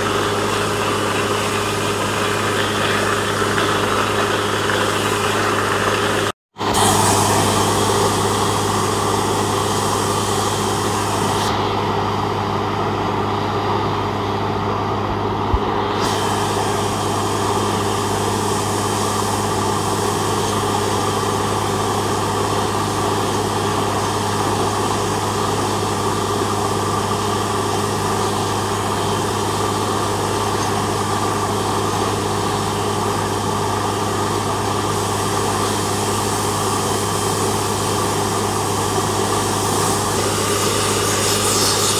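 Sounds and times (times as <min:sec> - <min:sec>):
drilling rig droning: 0:00.0 - 0:41.9.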